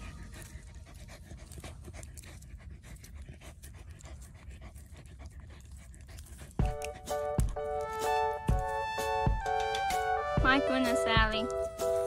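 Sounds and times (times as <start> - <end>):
dog panting hard: 0.0 - 12.0.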